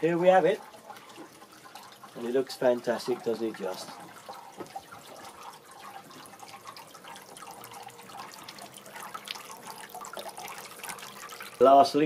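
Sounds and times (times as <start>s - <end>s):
fountain water splashing into basin: 0.0s - 12.0s
small water drips: 0.0s - 12.0s.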